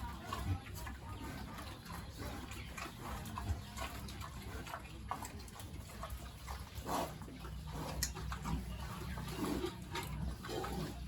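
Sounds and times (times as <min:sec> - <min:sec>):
farm animals calling: 0:00.0 - 0:11.0.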